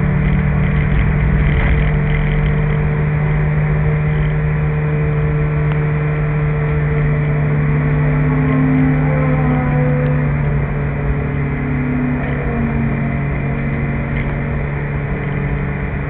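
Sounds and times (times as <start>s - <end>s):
car engine at high revs: 0.0s - 16.0s
road and wind noise: 0.0s - 16.0s.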